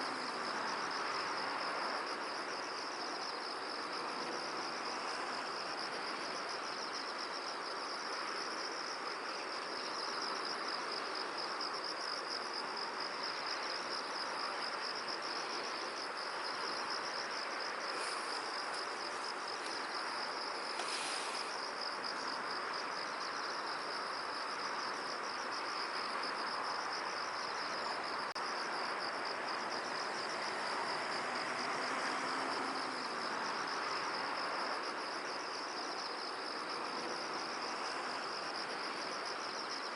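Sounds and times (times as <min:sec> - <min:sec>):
wind hiss: 0:00.0 - 0:39.9.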